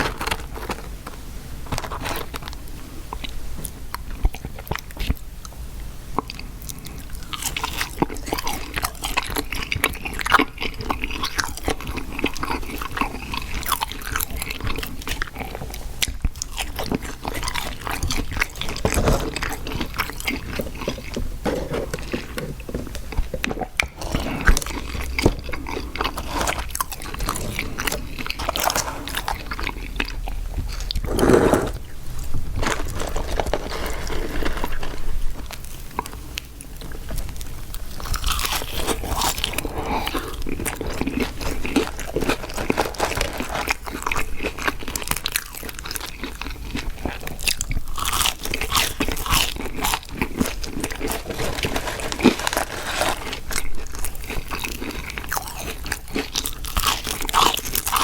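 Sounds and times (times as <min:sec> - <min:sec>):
crunchy bites and chewing: 0:06.2 - 0:58.0.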